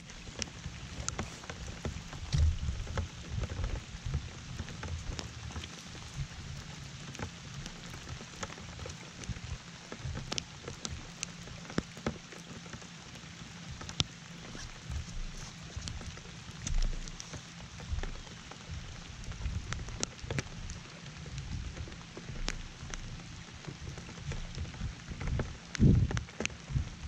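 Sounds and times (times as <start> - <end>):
low uneven rumble: 0.0 - 27.0
rain falling on water: 0.0 - 27.0
raindrop ticks: 0.0 - 27.0.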